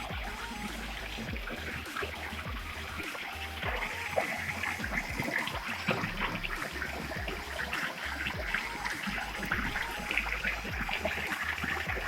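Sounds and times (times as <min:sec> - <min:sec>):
stream water running and splashing: 0:00.0 - 0:12.0.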